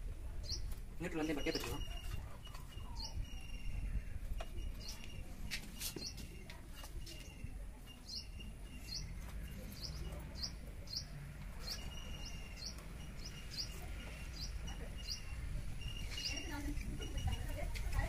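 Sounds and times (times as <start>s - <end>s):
small bird chirping: 0.4s - 17.6s.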